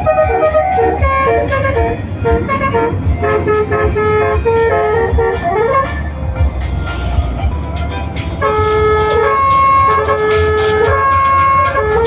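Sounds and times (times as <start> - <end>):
low engine rumble: 0.0 - 12.0
multi-tone musical bus horn: 0.0 - 12.0.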